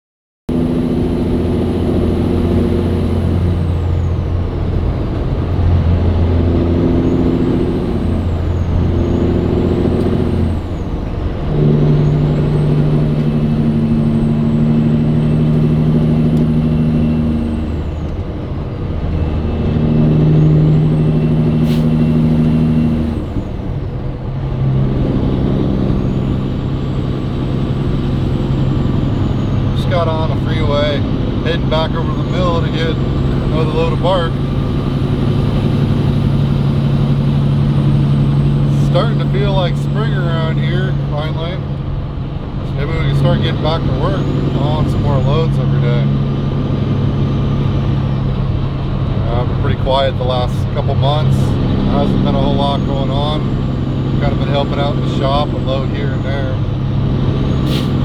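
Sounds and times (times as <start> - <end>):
truck engine shifting gears: 0.5 - 58.0.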